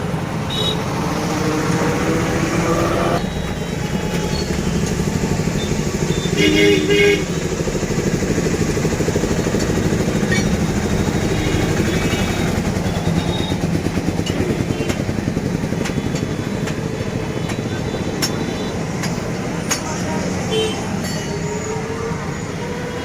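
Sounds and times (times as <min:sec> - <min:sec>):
motorcycle engine running: 0:00.5 - 0:20.8.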